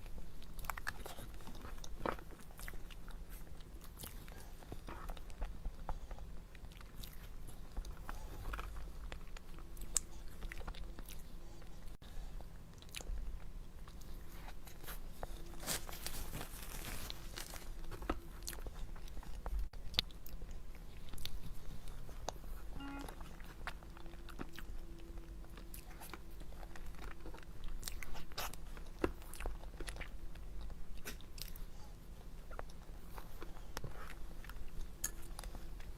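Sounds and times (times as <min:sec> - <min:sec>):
chewing dessert: 0:00.0 - 0:35.9
food crunching: 0:00.0 - 0:35.9.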